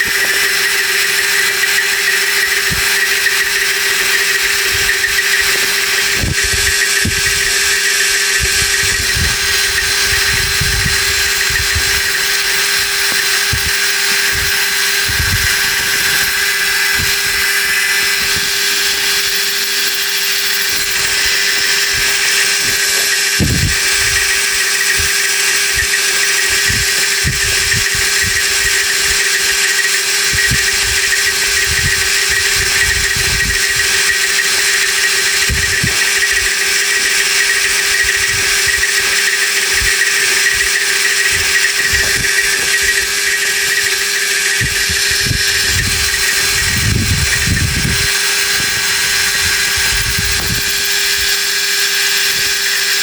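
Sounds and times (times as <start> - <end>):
machine hum: 0.0 - 53.0
saw cutting steel: 0.0 - 53.0.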